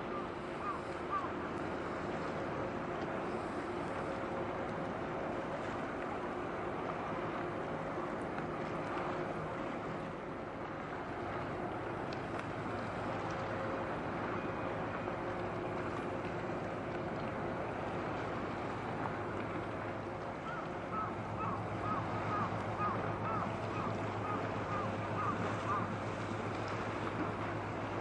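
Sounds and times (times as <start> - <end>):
ship engine drone: 0.0 - 28.0
water noise: 0.0 - 28.0
wind: 0.0 - 28.0.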